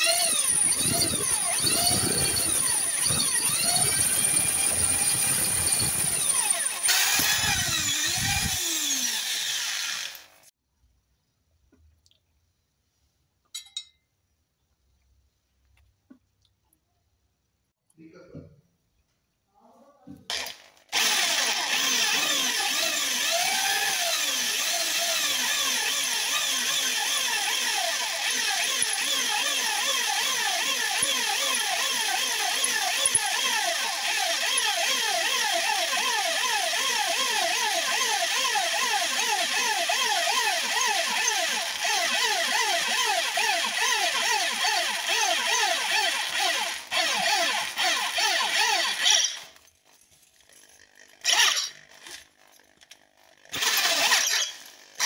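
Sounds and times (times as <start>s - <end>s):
electric drill boring into steel: 0.0s - 10.5s, 20.3s - 49.6s, 50.5s - 55.0s.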